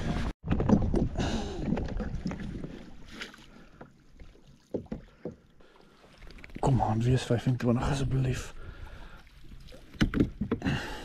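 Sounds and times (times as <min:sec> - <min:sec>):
water sloshing around kayak: 0:00.0 - 0:11.0.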